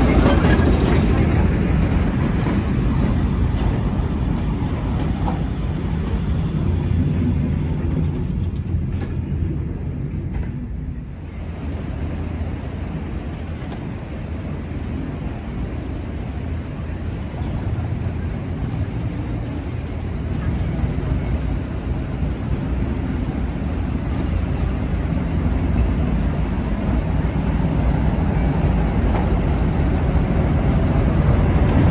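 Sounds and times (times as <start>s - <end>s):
train rumbling: 0.0s - 31.9s.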